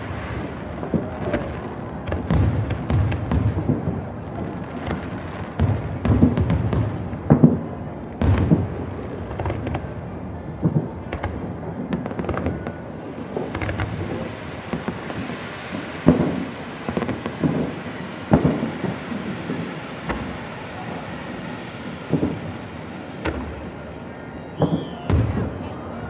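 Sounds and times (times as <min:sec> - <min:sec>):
fireworks booming and crackling: 0:00.0 - 0:26.0.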